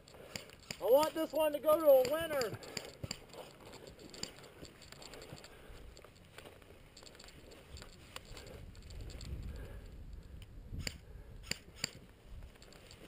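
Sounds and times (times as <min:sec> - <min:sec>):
rustling of movement: 0:00.0 - 0:13.0.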